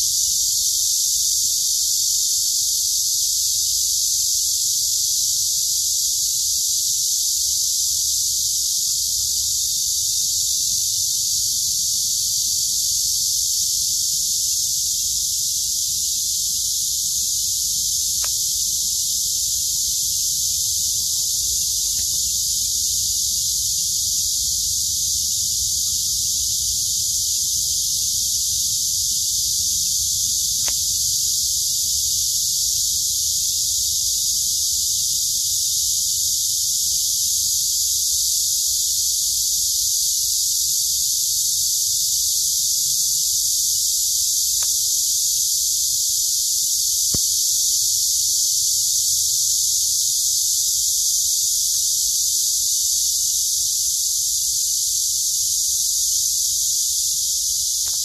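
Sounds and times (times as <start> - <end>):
cicadas buzzing: 0.0 - 58.0.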